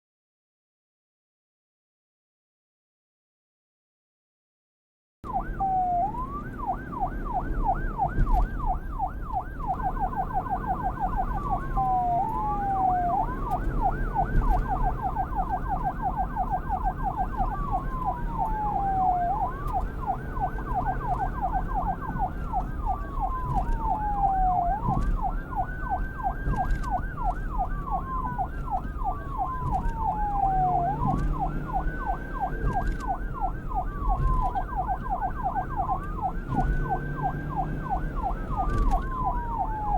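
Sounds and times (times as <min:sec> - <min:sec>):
police siren yelping and wailing: 0:05.2 - 0:39.9.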